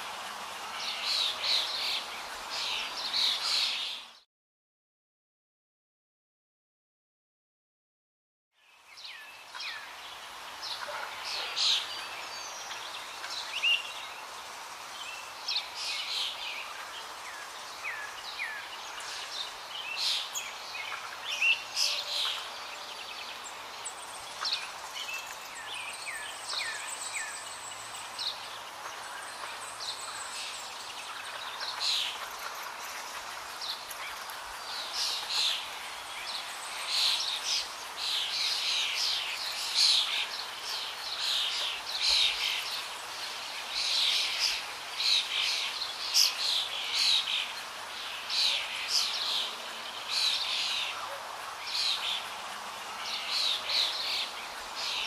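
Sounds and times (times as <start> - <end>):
steady background hiss: 0.0 - 4.2, 8.6 - 55.0.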